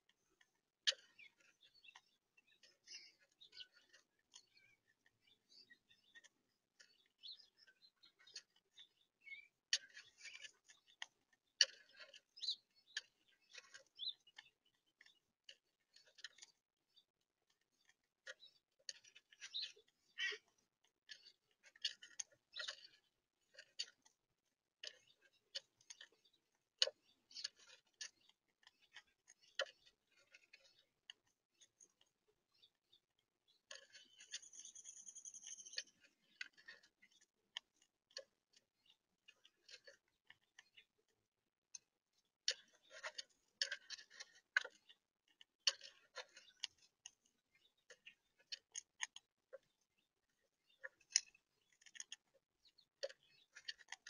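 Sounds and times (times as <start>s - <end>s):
squirrels chewing and cracking seeds: 0.0s - 54.0s.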